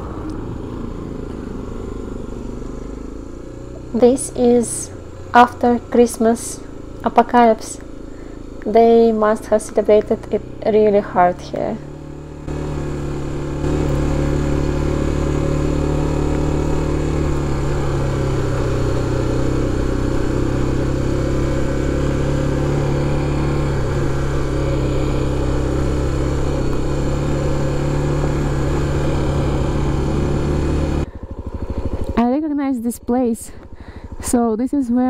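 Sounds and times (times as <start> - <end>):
motorcycle engine cruising: 0.0 - 35.0
road and wind noise: 0.0 - 35.0.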